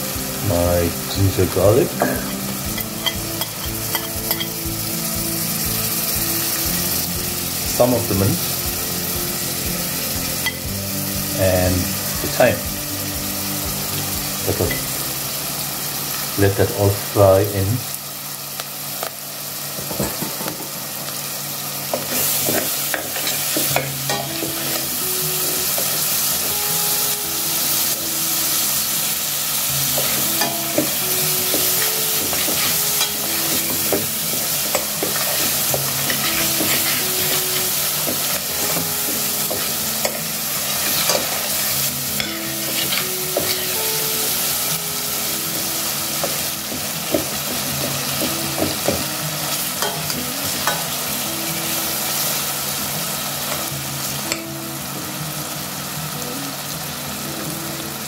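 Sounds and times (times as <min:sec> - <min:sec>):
spices sizzling in hot oil: 0:00.0 - 0:58.0.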